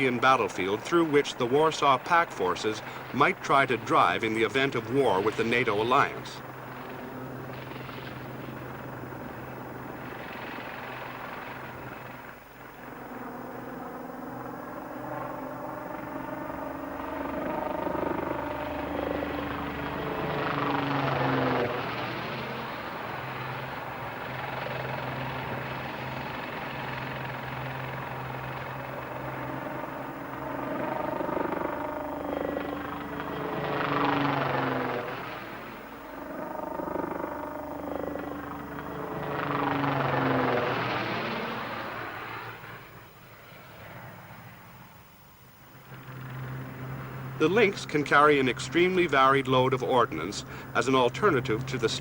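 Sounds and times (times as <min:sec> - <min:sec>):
helicopter flying: 0:00.0 - 0:52.0.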